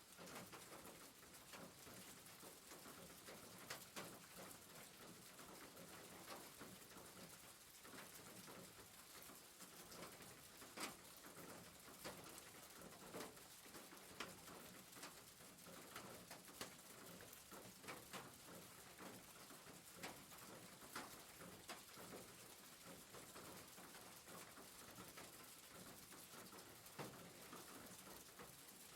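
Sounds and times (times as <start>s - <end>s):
rain pattering on a roof: 0.0s - 28.9s.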